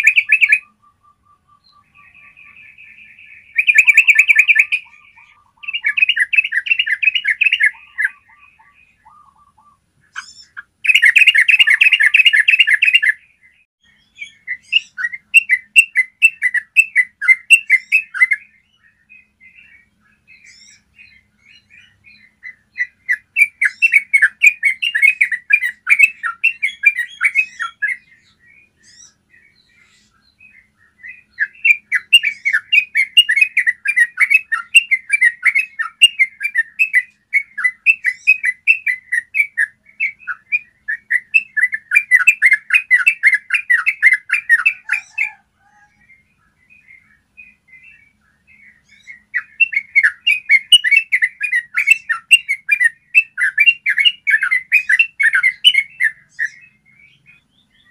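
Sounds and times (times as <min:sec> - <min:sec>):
bulbul singing: 0:00.0 - 0:57.9.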